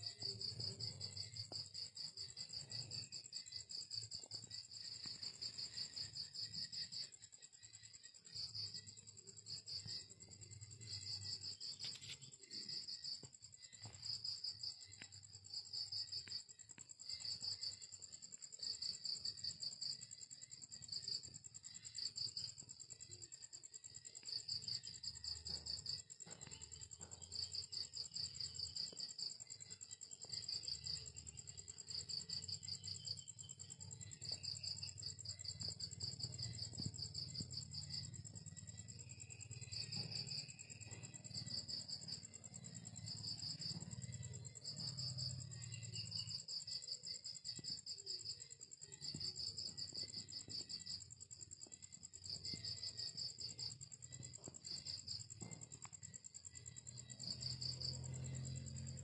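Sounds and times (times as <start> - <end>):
insects high-pitched buzz: 0.0 - 59.0
insects pulsed chirps: 0.0 - 59.0.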